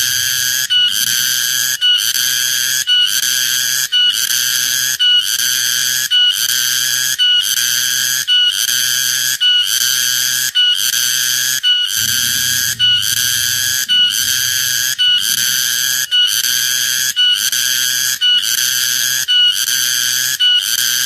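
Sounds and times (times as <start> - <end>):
cicada buzzing song: 0.0 - 21.0.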